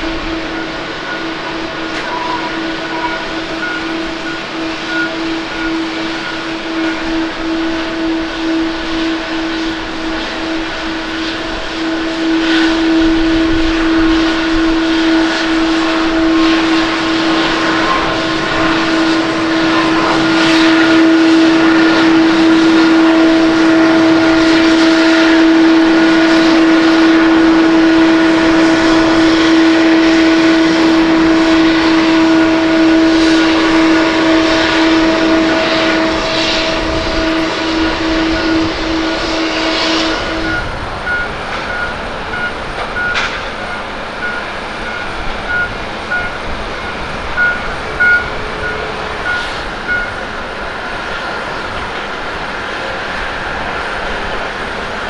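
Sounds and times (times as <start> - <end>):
jet engines roaring at takeoff: 0.0 - 55.0.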